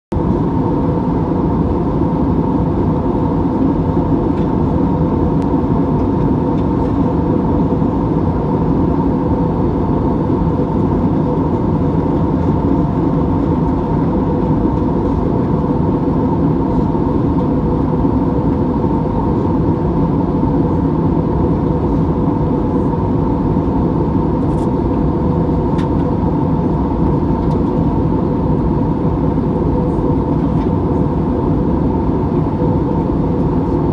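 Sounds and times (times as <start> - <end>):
jet engines in cruise: 0.1 - 33.9
steady cabin hum: 0.1 - 33.9.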